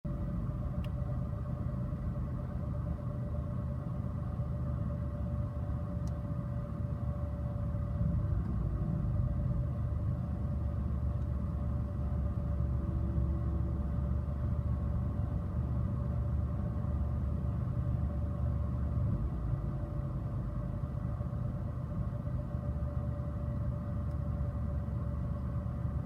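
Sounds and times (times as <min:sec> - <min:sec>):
constant hum: 0:00.1 - 0:26.0.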